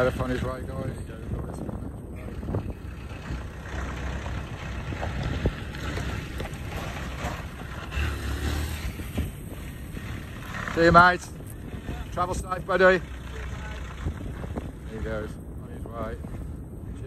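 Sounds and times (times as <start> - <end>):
van engine rumbling: 0.0 - 17.0.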